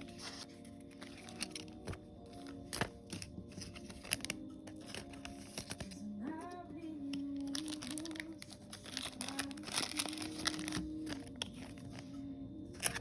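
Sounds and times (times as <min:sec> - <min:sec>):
foil packs crinkling: 0:00.0 - 0:06.1, 0:07.0 - 0:12.2, 0:12.8 - 0:13.0
background music: 0:00.0 - 0:13.0.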